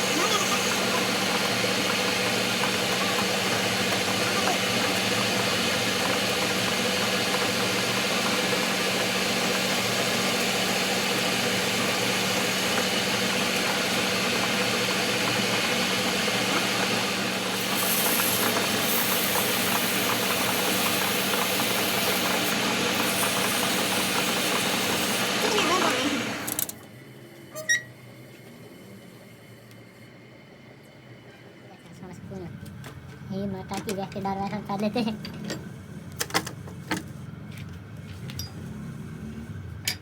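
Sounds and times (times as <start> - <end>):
workshop machinery humming and rattling: 0.0 - 40.0.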